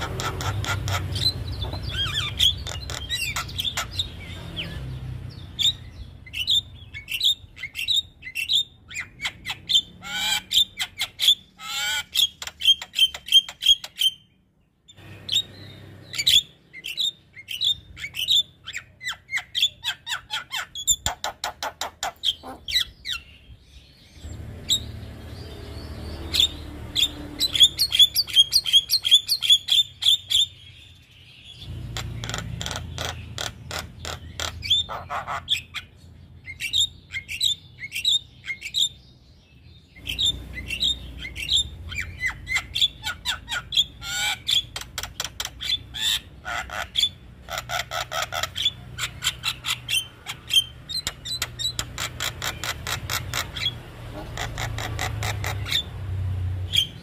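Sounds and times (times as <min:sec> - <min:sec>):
bird singing chattering calls: 0:00.0 - 0:57.0.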